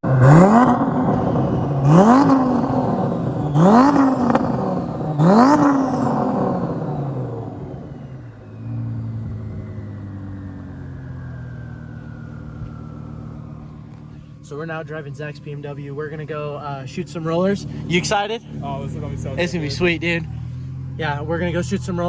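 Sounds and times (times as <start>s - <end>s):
car engine accelerating with upshifts: 0.0s - 22.0s
lower steady engine note: 0.0s - 22.0s.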